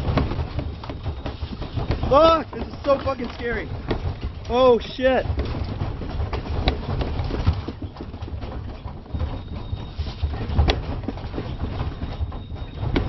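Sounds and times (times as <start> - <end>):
low earthquake rumble: 0.0 - 13.0
room contents rattling and knocking: 0.0 - 13.0.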